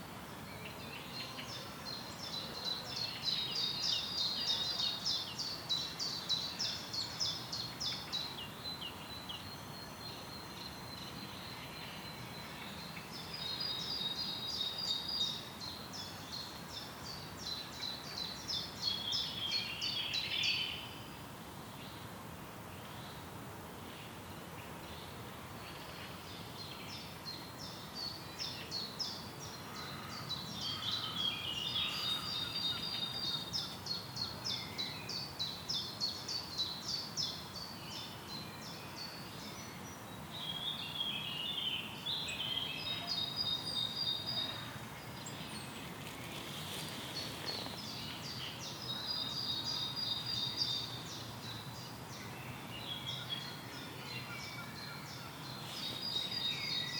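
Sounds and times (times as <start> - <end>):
songbirds singing: 0.0 - 56.9
steady outdoor hiss: 0.0 - 56.9.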